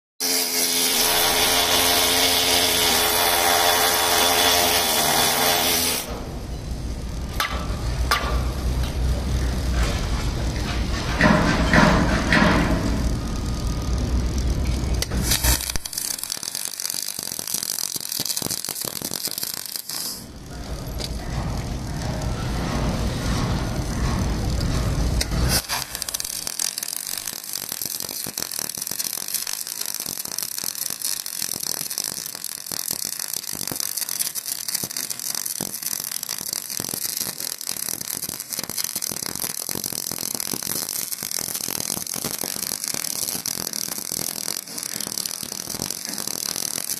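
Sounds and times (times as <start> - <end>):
welding arc crackling: 0.2 - 46.9.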